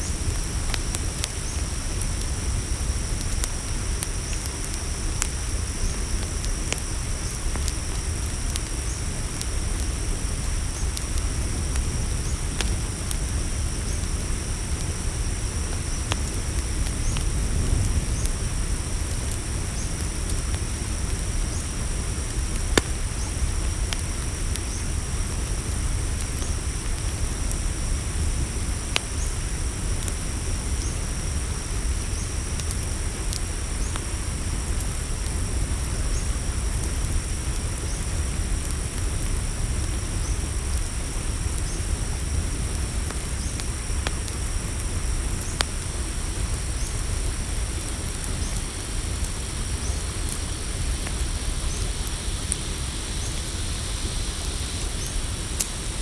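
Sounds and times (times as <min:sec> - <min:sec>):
campfire crackling and popping: 0:00.0 - 0:56.0
crickets chirping: 0:00.0 - 0:56.0
steady low rumble: 0:00.0 - 0:56.0.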